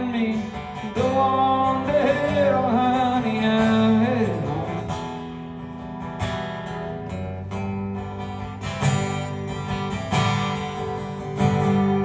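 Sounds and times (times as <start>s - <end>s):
acoustic guitar strumming: 0.0s - 12.0s
person singing country song: 0.0s - 12.0s.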